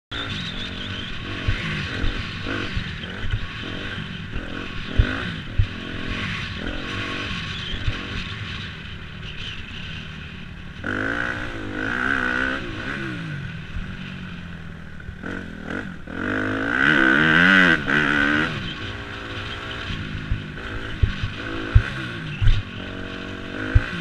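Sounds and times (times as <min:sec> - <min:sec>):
motocross bike engine revving: 0:00.1 - 0:24.0.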